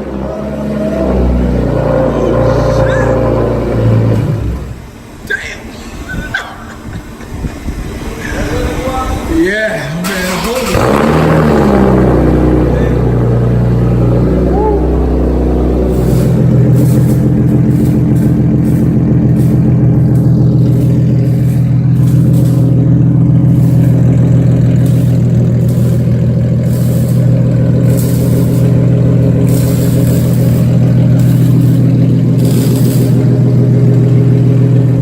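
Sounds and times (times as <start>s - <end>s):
car engine idling loudly: 0.0s - 5.1s, 10.3s - 35.0s.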